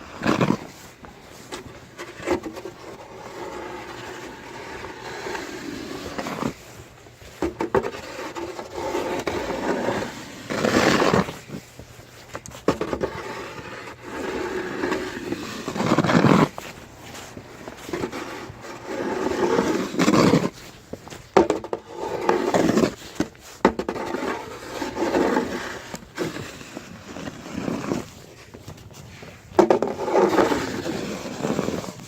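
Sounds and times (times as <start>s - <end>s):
snow shovel scraping snow: 0.0s - 32.0s.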